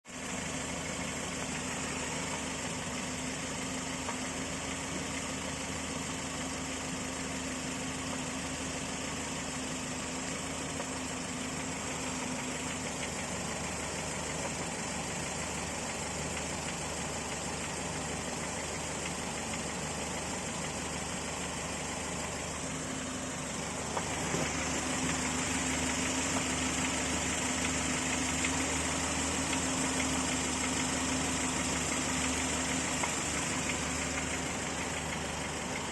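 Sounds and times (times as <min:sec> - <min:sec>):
car engine idling: 0:00.1 - 0:35.9
engine knocking: 0:00.1 - 0:35.9.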